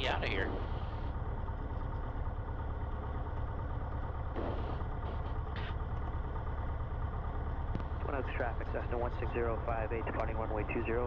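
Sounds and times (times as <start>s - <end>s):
aircraft engine idling: 0.0s - 11.0s.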